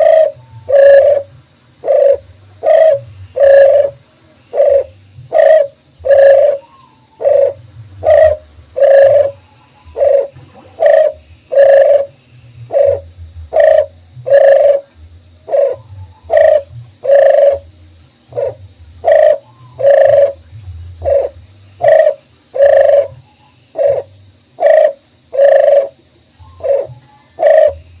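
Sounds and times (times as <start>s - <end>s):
dove cooing: 0.0s - 17.7s, 18.3s - 28.0s
faint steady high tone: 0.0s - 17.7s, 18.3s - 28.0s.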